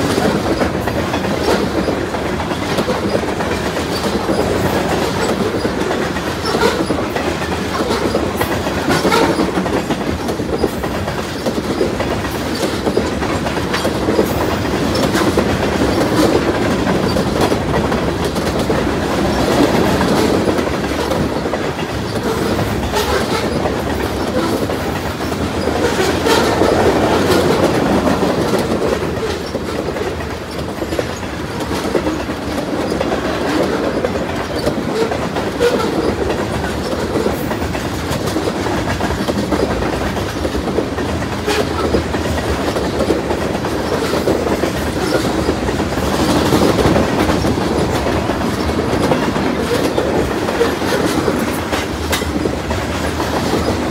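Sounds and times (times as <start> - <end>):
freight train rumbling past: 0.0 - 53.9
wheels clicking over rail joints: 0.0 - 53.9.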